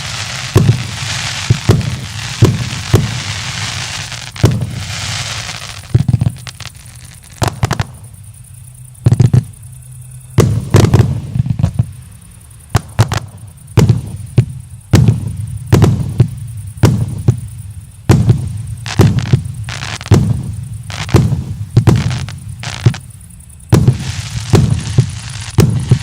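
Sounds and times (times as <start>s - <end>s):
fireworks bangs with rumble: 0.0s - 26.0s.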